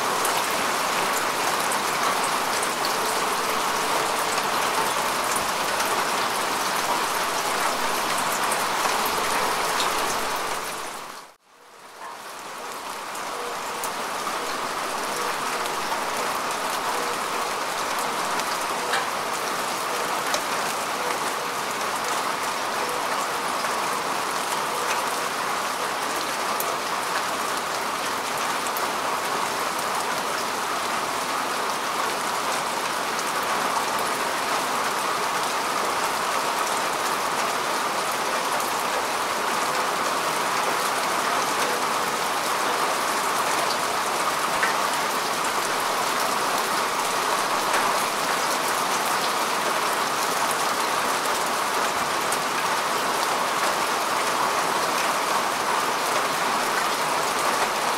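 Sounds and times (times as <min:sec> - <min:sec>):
rain falling on grass: 0:00.0 - 0:57.9.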